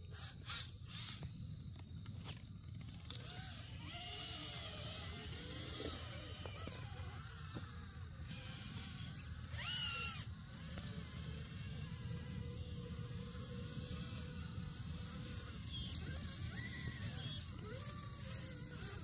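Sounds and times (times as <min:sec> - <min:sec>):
small electric motors whining: 0:00.0 - 0:19.0.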